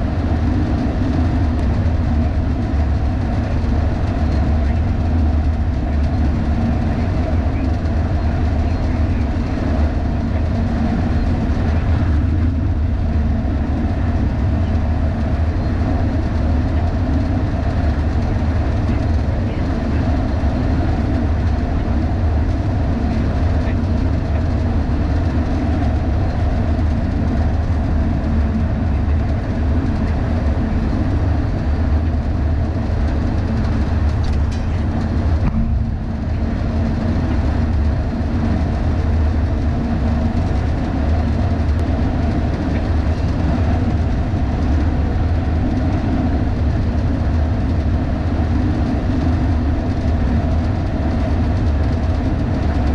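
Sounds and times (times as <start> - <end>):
truck road and wind rumble: 0.0 - 52.9.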